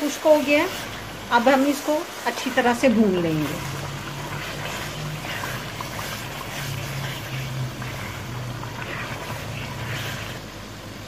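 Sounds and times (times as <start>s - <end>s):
wooden spoon stirring: 0.0s - 10.5s
curry sizzling in a pot: 0.0s - 11.0s.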